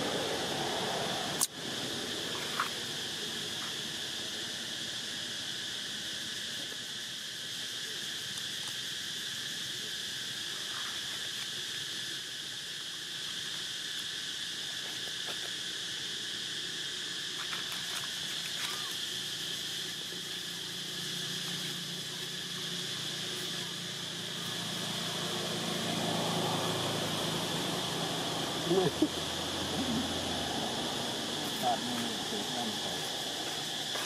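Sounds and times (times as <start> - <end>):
insect chorus buzzing: 0.0 - 34.0.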